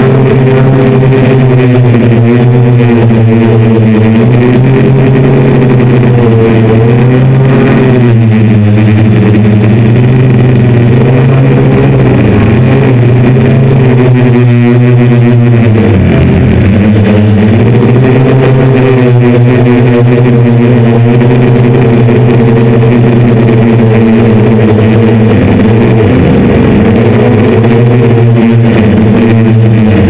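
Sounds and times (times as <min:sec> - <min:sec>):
drone motors droning: 0:00.0 - 0:30.0.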